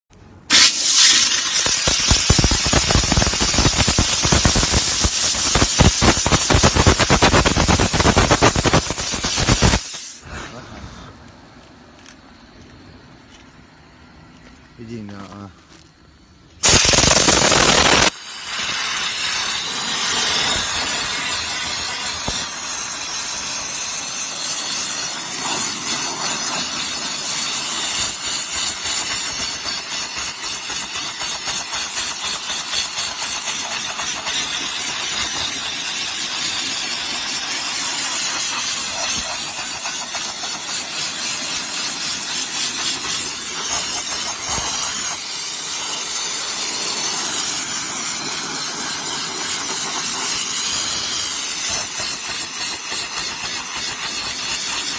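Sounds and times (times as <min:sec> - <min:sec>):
steam spray lance blasting: 0:00.4 - 0:10.3, 0:16.6 - 0:54.9.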